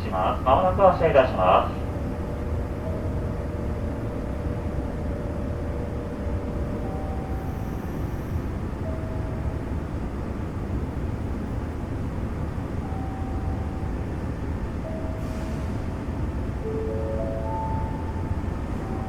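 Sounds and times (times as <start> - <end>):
train car hum and rumble: 0.0 - 19.0.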